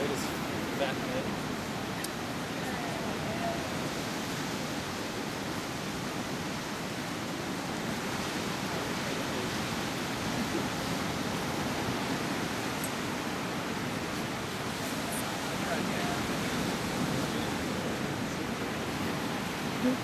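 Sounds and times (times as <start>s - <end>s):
ocean surf on beach: 0.0s - 20.0s.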